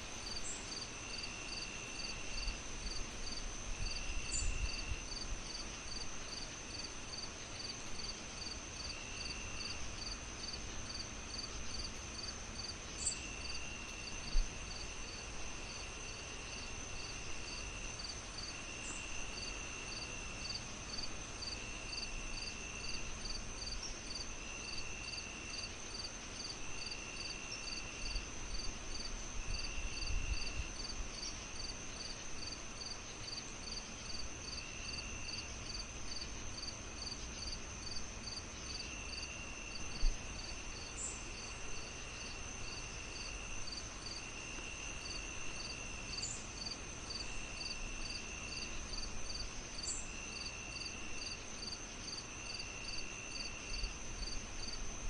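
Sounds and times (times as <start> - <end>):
night insects chirping: 0.0 - 55.0.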